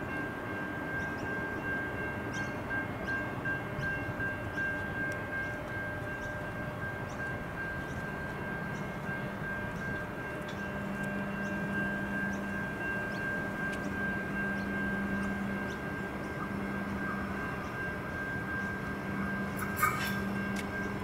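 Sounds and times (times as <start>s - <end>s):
diesel railcar engine drone: 0.0s - 21.0s.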